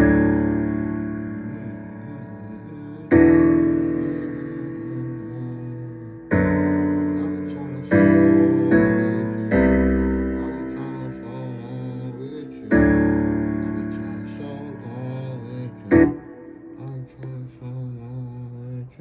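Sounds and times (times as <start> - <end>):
piano keyboard chords: 0.0 - 18.8.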